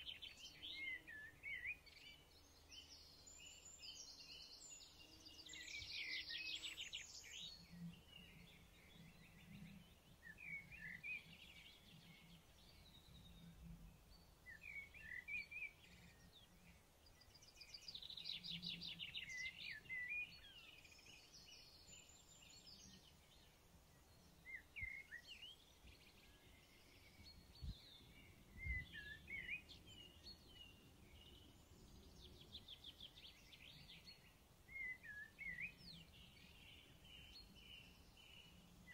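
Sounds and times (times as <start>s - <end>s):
low steady hiss: 0.0s - 38.9s
songbirds chirping and trilling: 0.0s - 38.9s.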